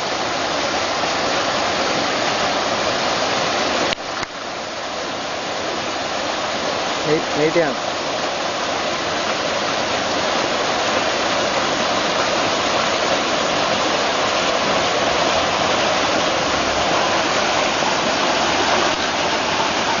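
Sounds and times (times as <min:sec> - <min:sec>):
waterfall splashing over rocks: 0:00.0 - 0:20.0.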